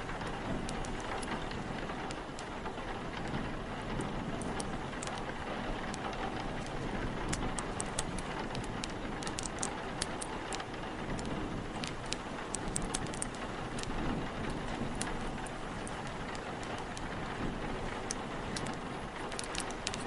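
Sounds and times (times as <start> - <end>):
fire crackling: 0.0 - 20.0
steady rain: 0.0 - 20.0
wind: 0.0 - 20.0.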